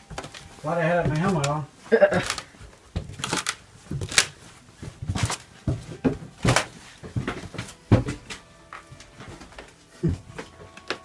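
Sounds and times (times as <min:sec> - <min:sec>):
boots climbing wooden stairs: 0:00.0 - 0:11.0.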